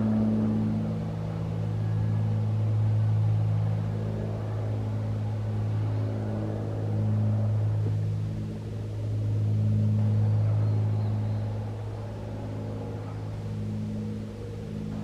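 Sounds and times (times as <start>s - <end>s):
propeller plane drone: 0.0s - 15.0s.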